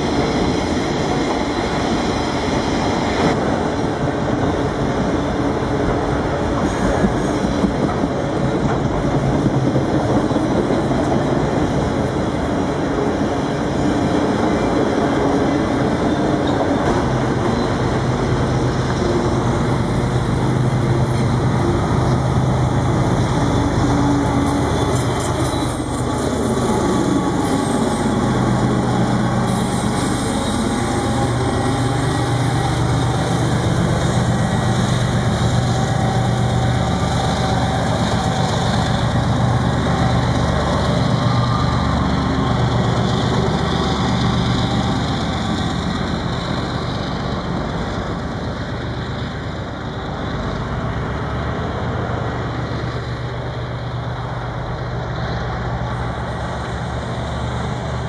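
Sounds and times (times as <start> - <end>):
diesel locomotive engine drone: 0.0 - 58.0
freight cars rumbling on rails: 0.0 - 58.0.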